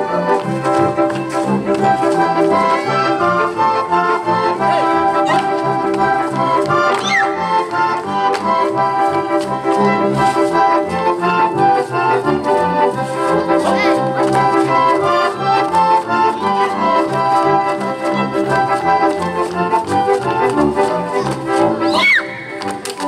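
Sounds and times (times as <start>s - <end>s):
lively folk dance music: 0.0s - 23.0s.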